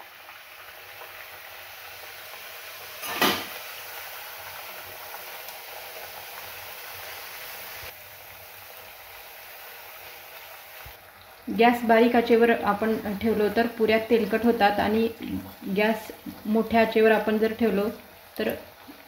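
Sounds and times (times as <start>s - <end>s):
deep-frying sizzle in oil: 0.0s - 19.0s.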